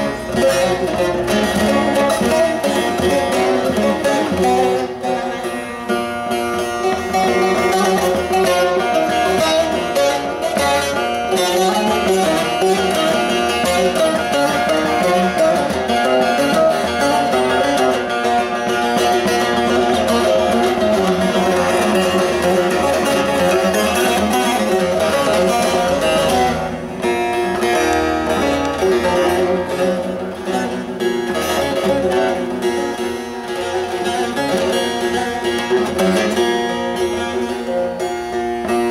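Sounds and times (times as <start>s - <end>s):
long-necked lute plucked: 0.0s - 38.9s.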